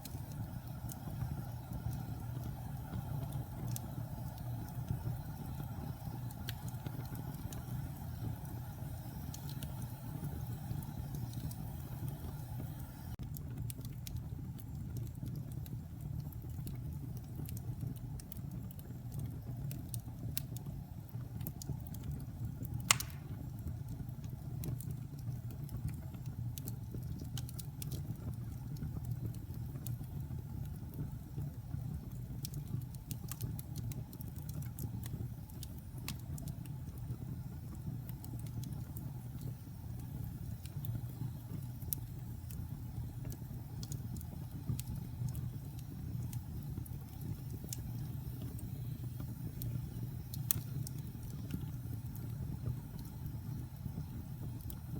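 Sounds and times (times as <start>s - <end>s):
fire flames rumbling: 0.0s - 54.9s
wood crackling and popping: 0.0s - 54.9s.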